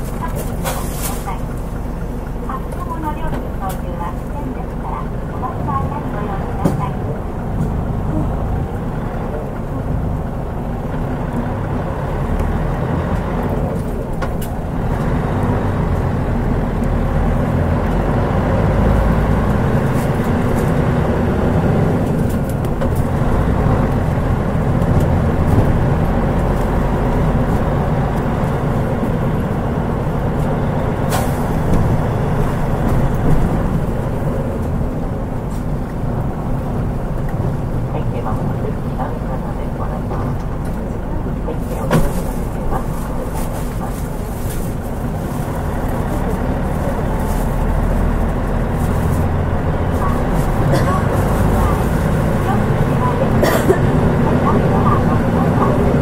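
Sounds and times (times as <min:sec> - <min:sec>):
bus diesel engine rumble: 0:00.0 - 0:56.0.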